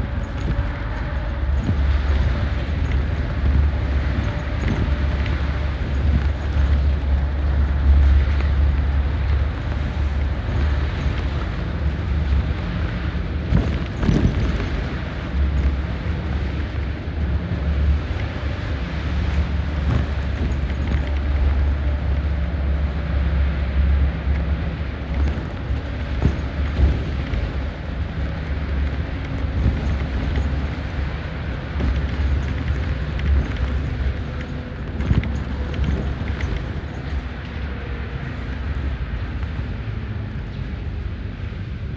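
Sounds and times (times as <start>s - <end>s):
diesel engine humming: 0.0s - 41.9s
road noise: 0.0s - 41.9s.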